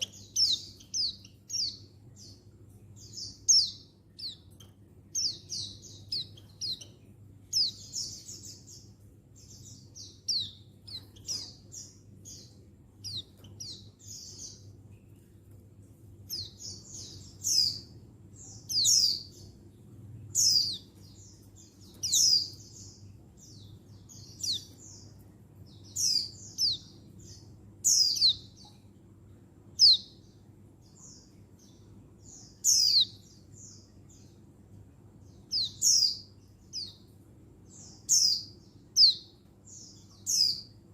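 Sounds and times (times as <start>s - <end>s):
bird chirping calls: 0.0s - 28.9s, 29.6s - 34.6s, 35.2s - 40.9s.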